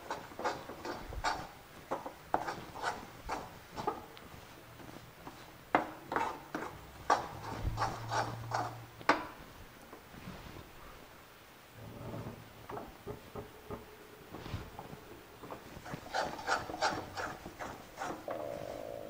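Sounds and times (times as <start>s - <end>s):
spoon stirring and scraping pan: 0.0s - 10.2s, 12.6s - 18.7s.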